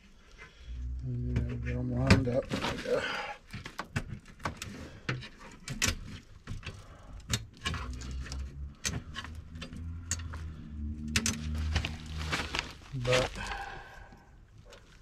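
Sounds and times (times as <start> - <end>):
low steady hum: 0.0 - 5.1, 6.0 - 15.0.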